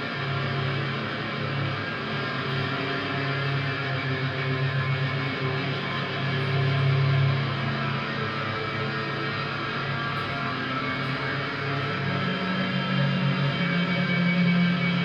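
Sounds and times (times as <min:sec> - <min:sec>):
ambient guitar drone music: 0:00.0 - 0:15.0.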